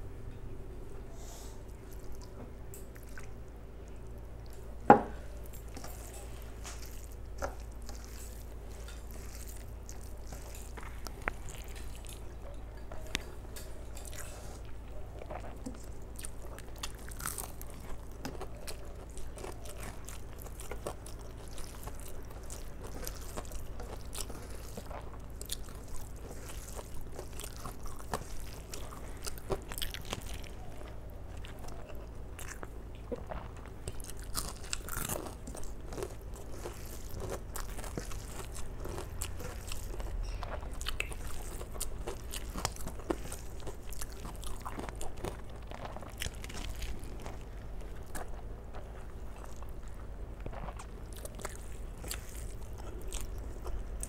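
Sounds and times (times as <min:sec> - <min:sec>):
chewing and light crunching: 0:00.2 - 0:54.0.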